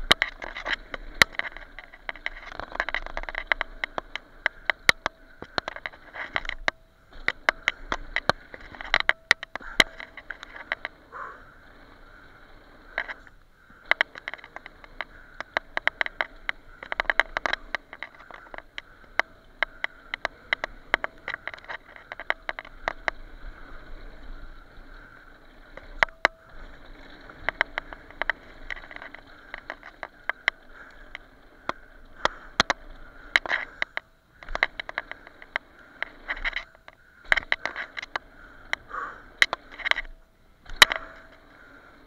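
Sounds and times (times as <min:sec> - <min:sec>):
bike clacking and rattling: 0:00.0 - 0:42.0
bike tyres on dirt trail: 0:00.0 - 0:42.0.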